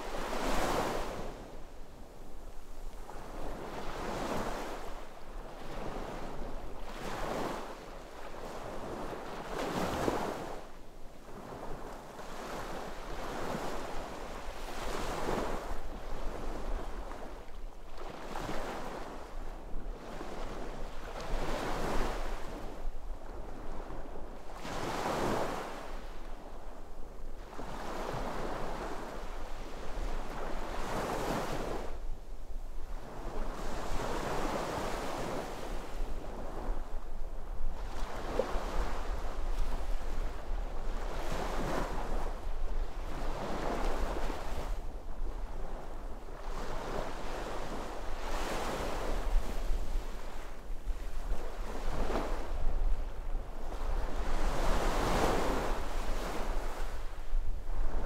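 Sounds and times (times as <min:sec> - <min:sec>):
sea waves breaking on shore: 0:03.1 - 0:26.3, 0:33.0 - 0:58.0.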